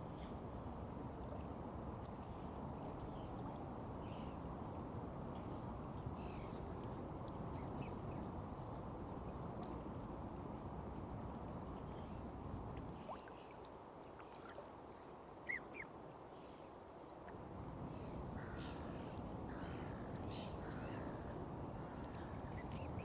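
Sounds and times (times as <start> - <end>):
water birds calling: 1.1 - 23.0.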